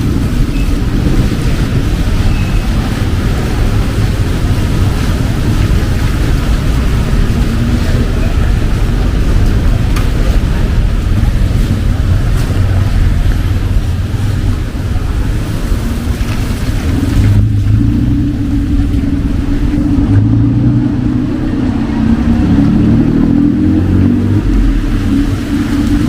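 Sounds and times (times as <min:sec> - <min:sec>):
heavy rain on street: 0:00.0 - 0:26.0
vehicle engines rumbling: 0:00.0 - 0:26.0.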